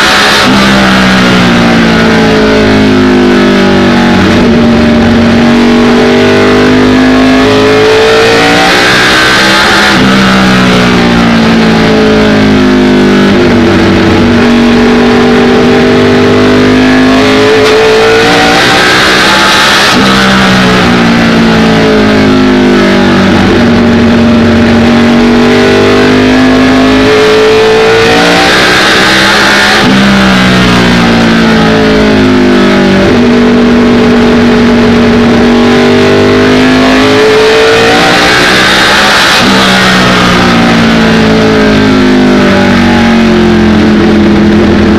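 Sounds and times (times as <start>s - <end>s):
race car engine at speed: 0.0s - 44.9s.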